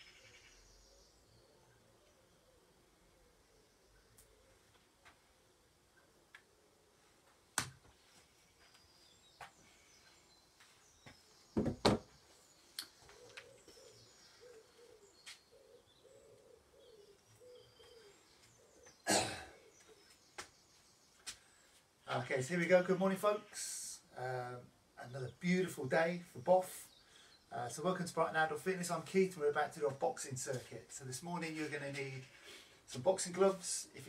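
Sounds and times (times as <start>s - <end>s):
faint birdsong: 0.0s - 34.0s.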